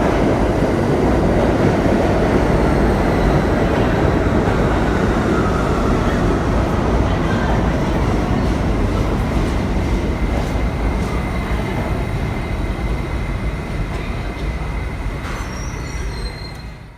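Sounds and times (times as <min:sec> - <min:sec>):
subway car wheels and motors rumbling: 0:00.0 - 0:16.9.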